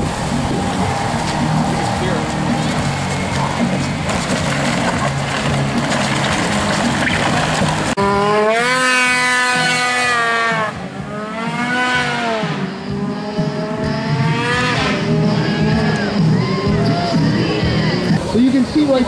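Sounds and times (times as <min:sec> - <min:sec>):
engine revving hard: 0:00.0 - 0:18.2.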